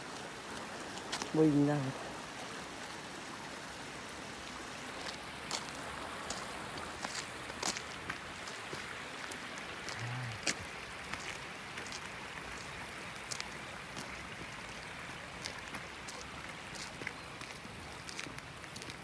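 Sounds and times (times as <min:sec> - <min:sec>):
stream running: 0:00.0 - 0:19.0.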